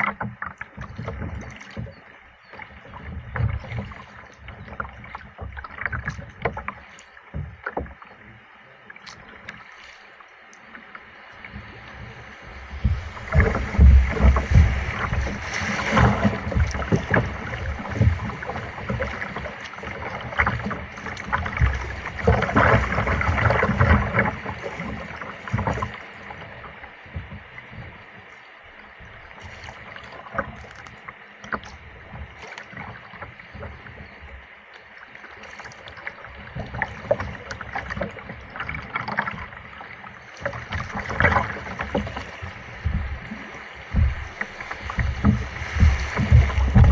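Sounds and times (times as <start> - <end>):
kayak paddle splashing: 0.0 - 46.9.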